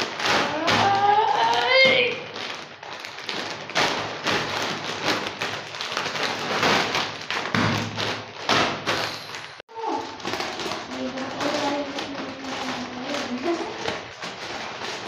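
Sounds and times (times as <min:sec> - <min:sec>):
foil packets crinkling: 0:00.0 - 0:15.0.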